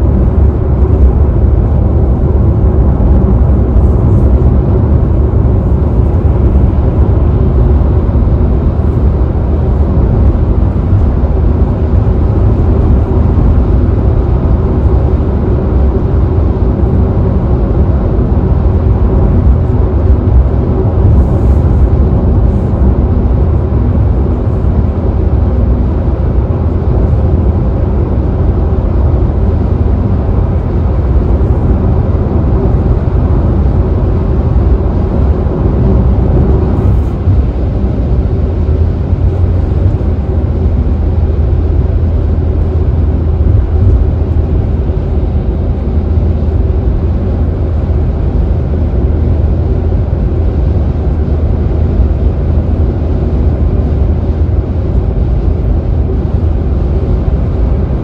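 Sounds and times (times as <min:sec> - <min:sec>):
car road noise at speed: 0:00.0 - 0:58.0.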